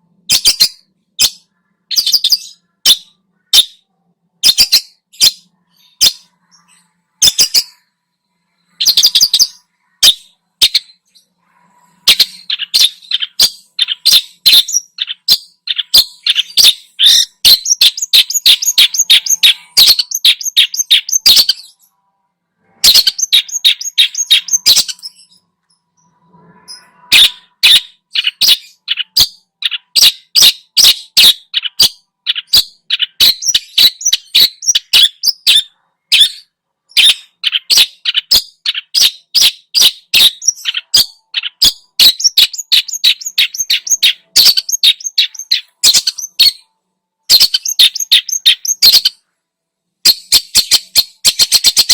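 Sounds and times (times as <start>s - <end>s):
bird harsh chattering song: 0.0s - 22.0s, 22.8s - 49.3s, 50.0s - 51.9s.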